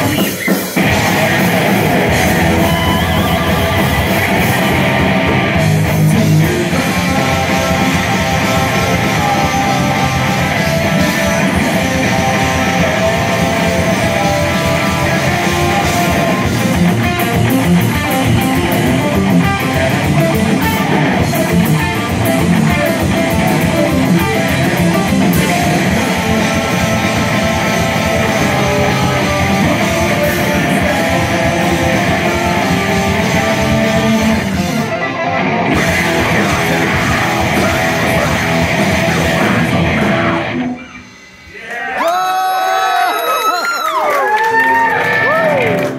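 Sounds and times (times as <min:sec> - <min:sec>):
rock band playing live: 0:00.0 - 0:41.6, 0:44.2 - 0:45.9.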